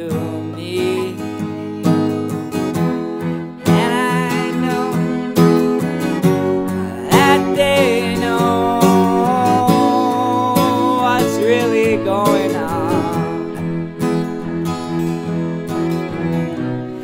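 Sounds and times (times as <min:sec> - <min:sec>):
person singing: 0:00.0 - 0:02.6, 0:03.6 - 0:17.0
strummed acoustic guitar: 0:00.0 - 0:17.0.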